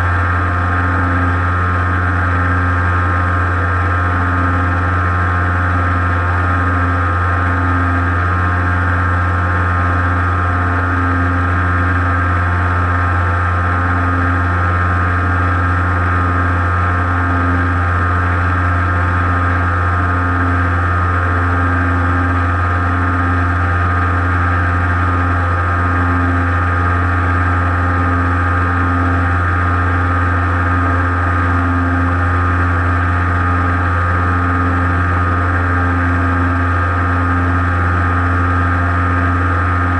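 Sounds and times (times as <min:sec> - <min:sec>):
model airplane motor droning: 0:00.0 - 0:39.9.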